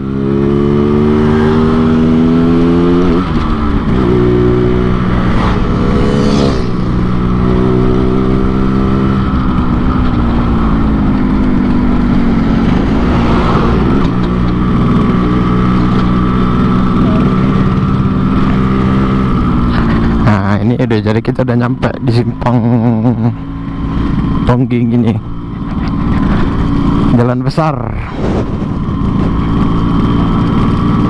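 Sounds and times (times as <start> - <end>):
two-stroke motorcycle engine: 0.0 - 31.0.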